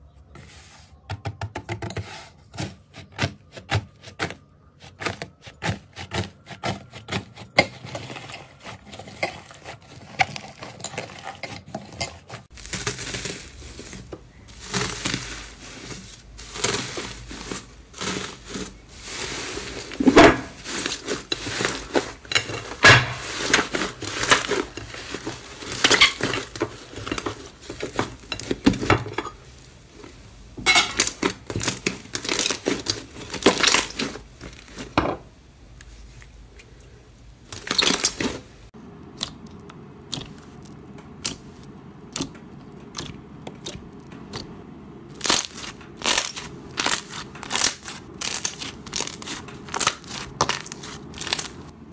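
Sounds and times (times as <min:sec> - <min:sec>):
slime crackling and squelching: 0:04.8 - 0:51.9.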